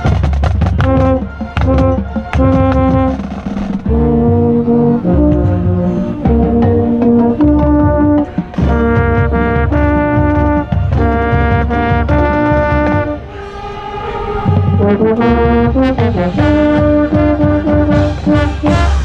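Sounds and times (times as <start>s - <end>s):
marching band brass chords: 0.0s - 19.0s.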